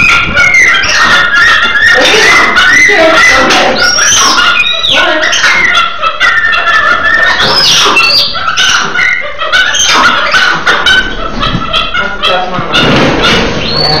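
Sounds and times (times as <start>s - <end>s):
monkeys yelping: 0.0s - 14.0s.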